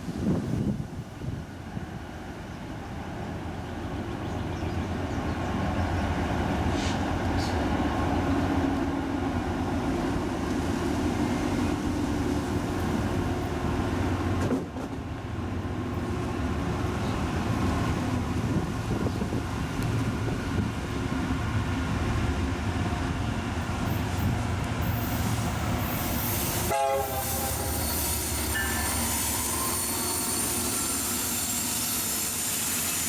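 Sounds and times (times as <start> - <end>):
train passing with diesel drone: 0.0 - 33.0.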